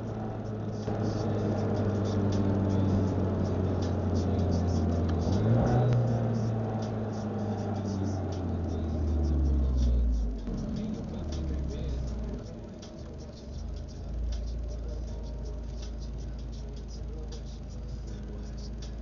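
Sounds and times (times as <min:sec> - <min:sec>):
car engine droning: 0:00.0 - 0:19.0
faint irregular ticking: 0:00.0 - 0:19.0.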